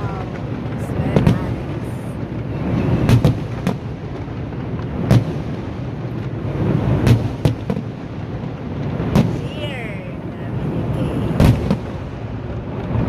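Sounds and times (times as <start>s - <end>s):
fireworks booming: 0.0s - 13.0s
low rumble of echoing bursts: 0.0s - 13.0s.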